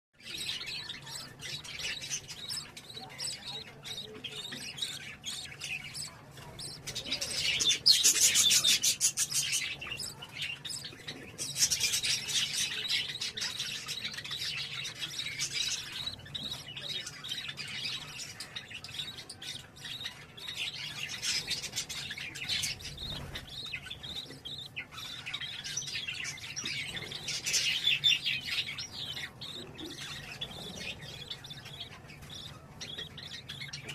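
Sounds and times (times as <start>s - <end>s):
budgerigars chirping and chattering: 0.2s - 33.9s.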